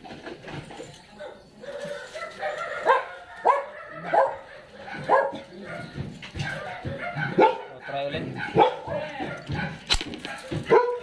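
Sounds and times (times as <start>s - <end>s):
dog barking: 1.2s - 11.0s
dog yipping: 1.2s - 11.0s.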